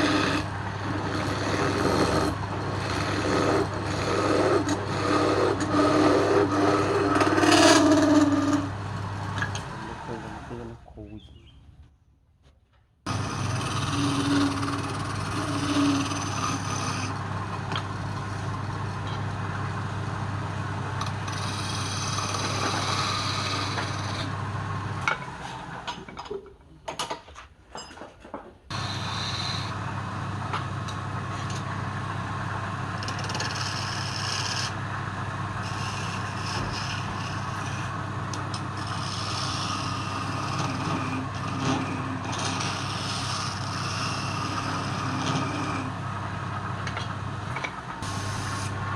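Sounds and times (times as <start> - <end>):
tool scraping spinning wood: 0.0 - 10.5, 13.1 - 26.1, 28.7 - 48.9
wood lathe motor humming: 0.0 - 10.6, 13.1 - 25.8, 28.7 - 48.9.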